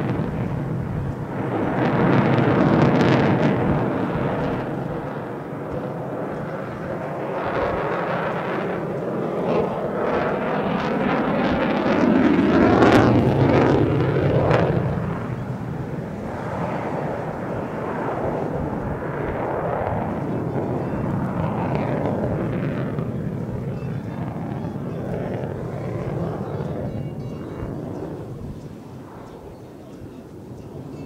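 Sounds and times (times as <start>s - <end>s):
fighter jet roar overhead: 0.0s - 31.0s.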